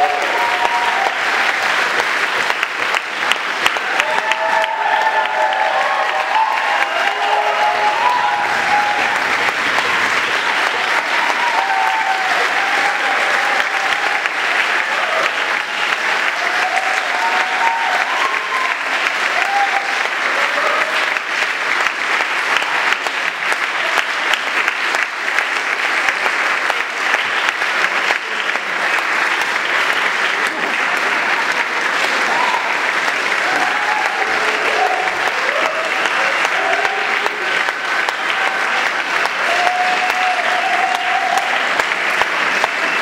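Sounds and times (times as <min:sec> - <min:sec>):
crowd applauding: 0:00.0 - 0:43.0.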